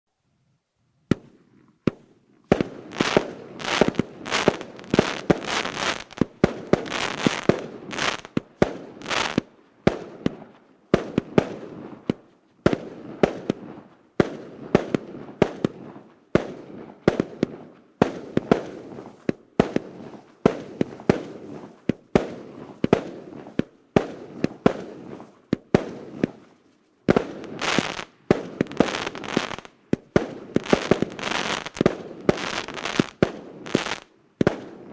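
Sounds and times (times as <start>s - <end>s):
fireworks bangs: 1.1s - 34.9s.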